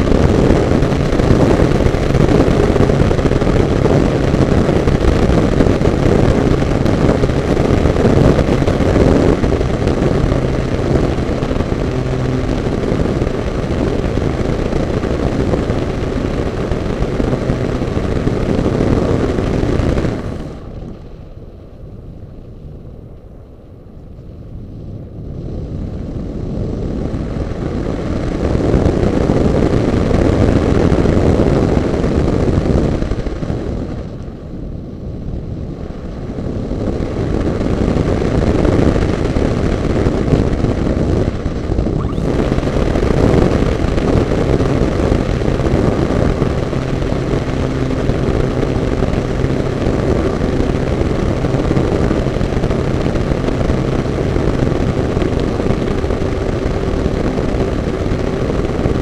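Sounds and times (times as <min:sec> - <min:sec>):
airflow rushing over camera: 0:00.0 - 0:30.4, 0:36.6 - 0:59.0
model plane motor and propeller hum: 0:00.0 - 0:59.0.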